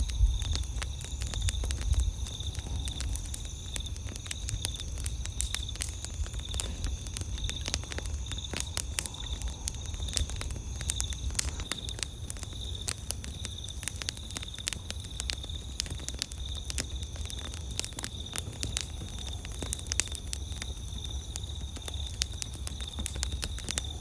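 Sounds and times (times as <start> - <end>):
campfire crackling: 0.0 - 24.0
insects chirping: 0.0 - 24.0.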